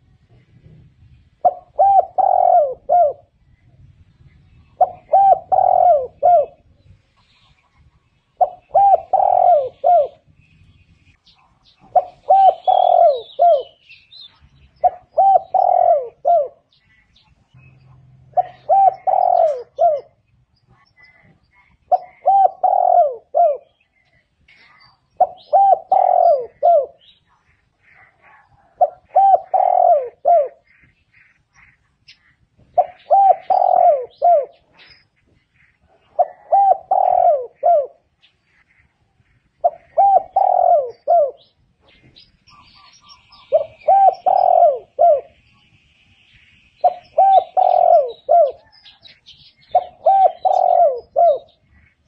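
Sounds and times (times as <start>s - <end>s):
dove cooing: 1.4s - 3.4s, 4.5s - 6.8s, 8.3s - 10.3s, 11.4s - 30.9s, 32.7s - 35.0s, 35.7s - 38.2s, 39.4s - 45.4s, 46.8s - 52.0s.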